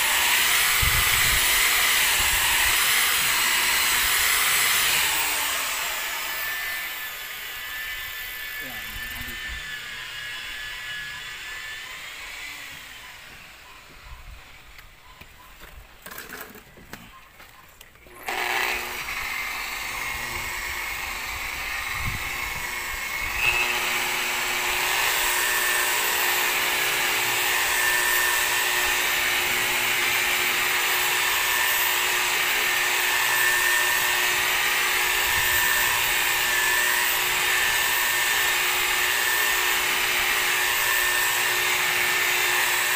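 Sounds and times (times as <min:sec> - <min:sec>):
rotary polisher whining: 0:00.0 - 0:15.4, 0:18.1 - 0:42.9.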